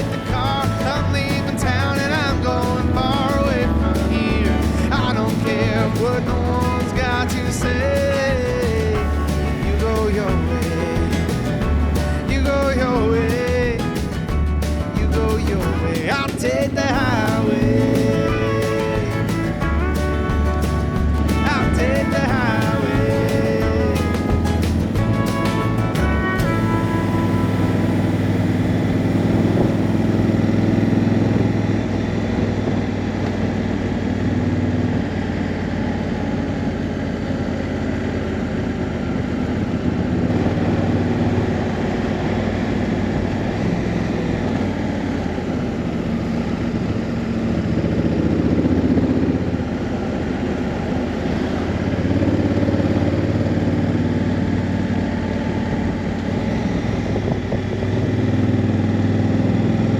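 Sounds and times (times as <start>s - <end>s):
motorcycle engine running at low revs: 0.0s - 59.9s.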